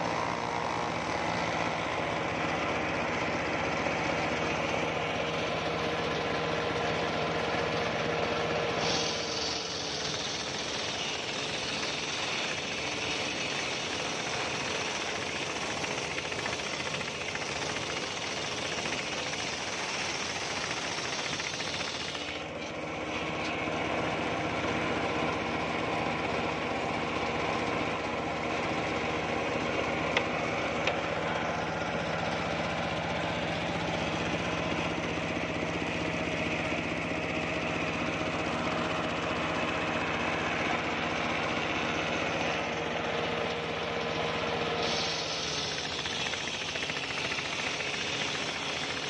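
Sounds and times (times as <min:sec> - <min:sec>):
circular saw cutting log: 0:00.0 - 0:49.0.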